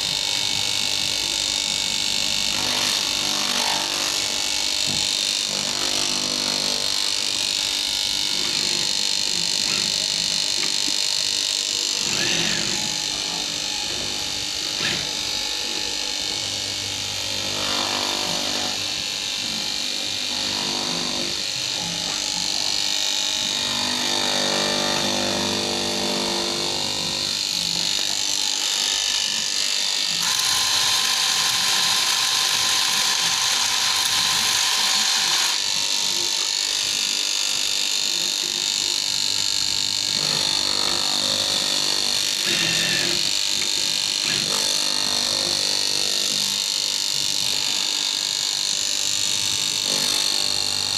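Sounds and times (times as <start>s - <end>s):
electric cutting machine running: 0.0s - 50.9s.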